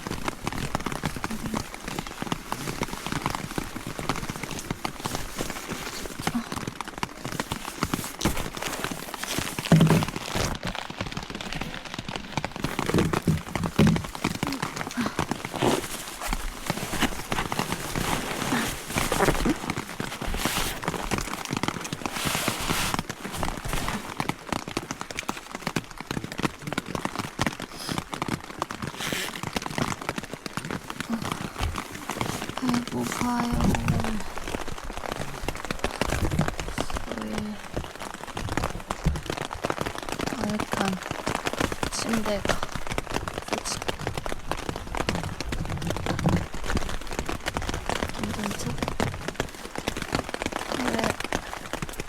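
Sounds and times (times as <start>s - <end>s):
rain pattering: 0.0s - 52.0s
rapid tapping and knocking: 0.0s - 52.0s.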